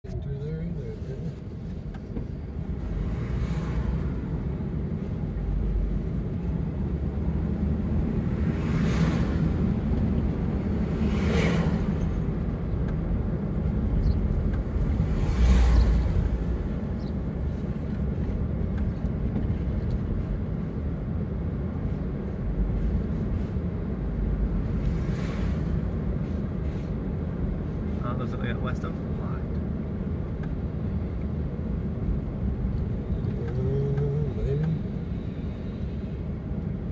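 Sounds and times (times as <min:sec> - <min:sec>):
car cabin road rumble: 0:00.0 - 0:36.9.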